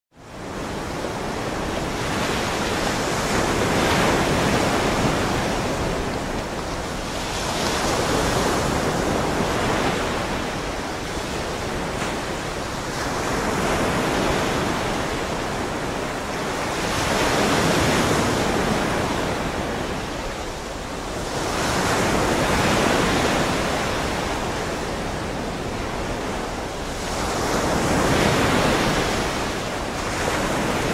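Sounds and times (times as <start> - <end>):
ocean waves breaking: 0.2 - 30.9.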